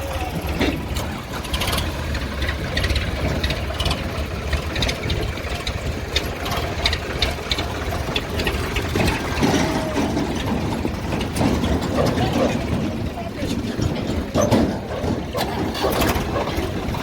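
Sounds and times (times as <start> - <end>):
heavy diesel engine running: 0.0 - 17.0
metallic clanks and rattles: 0.0 - 17.0.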